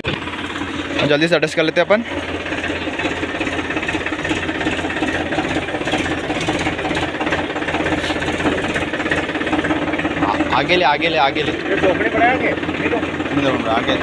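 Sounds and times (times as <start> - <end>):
diesel tractor engine clattering: 0.0 - 14.0.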